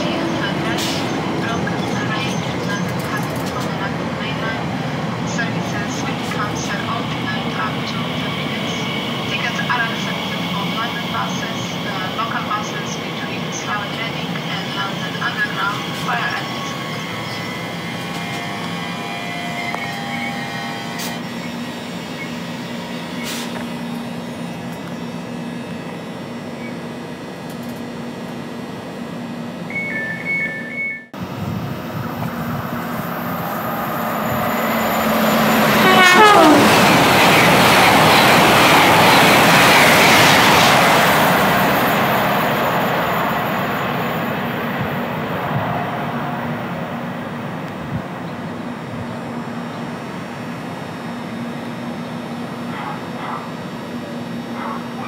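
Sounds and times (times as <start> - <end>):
train passing at speed: 0.0 - 27.3, 31.2 - 55.0
electric train humming: 0.0 - 55.0.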